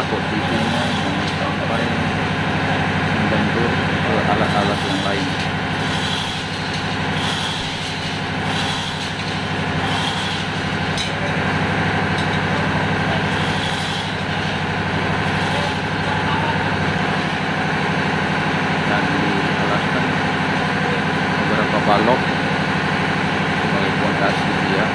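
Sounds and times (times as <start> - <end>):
engine room machinery drone: 0.0 - 24.9.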